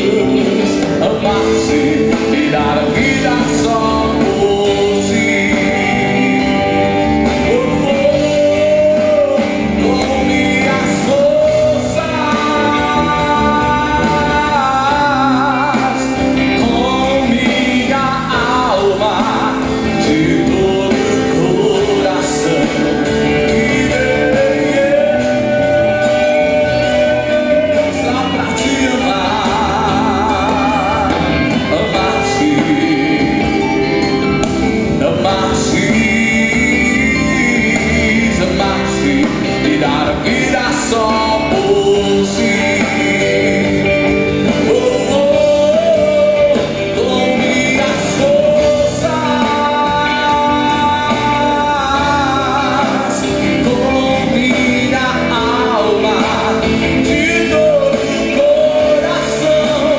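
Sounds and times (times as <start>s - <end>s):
band with electric guitar: 0.0s - 59.9s
man singing into a microphone: 0.0s - 59.9s
women singing along: 0.0s - 59.9s.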